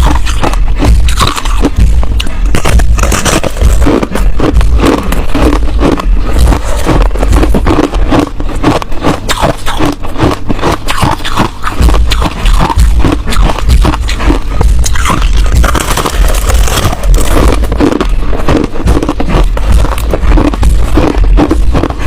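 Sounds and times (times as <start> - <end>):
chewing ice crunches: 0.0 - 22.0.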